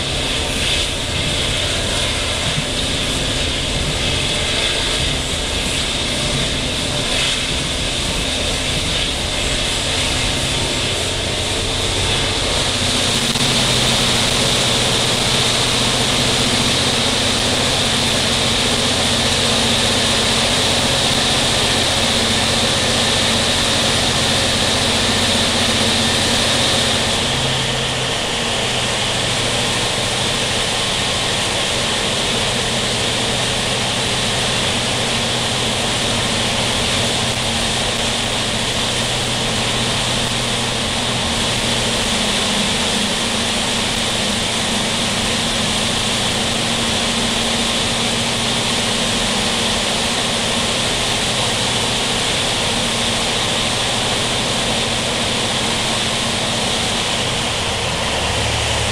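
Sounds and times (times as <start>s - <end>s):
low hum: 0.0s - 58.9s
rushing air in tunnel: 0.0s - 58.9s
train wheels on rail: 0.0s - 58.9s.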